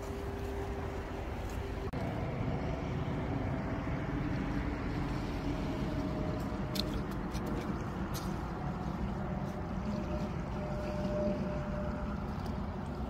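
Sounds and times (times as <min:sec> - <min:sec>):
low rumble of distant engines: 0:00.0 - 0:13.0.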